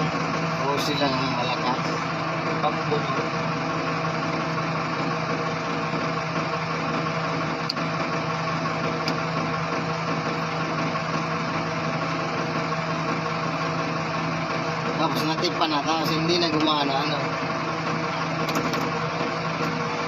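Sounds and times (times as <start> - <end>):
road roller engine running: 0.0 - 20.0.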